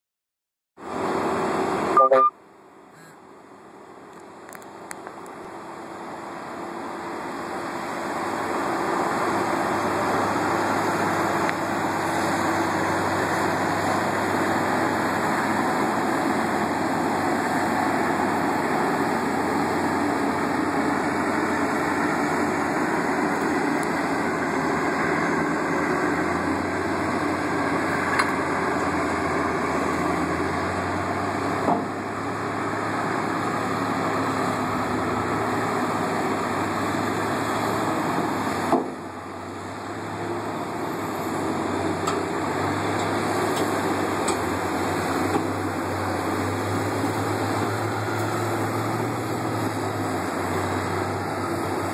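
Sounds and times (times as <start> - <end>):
heavy diesel engines running: 0.8 - 51.9.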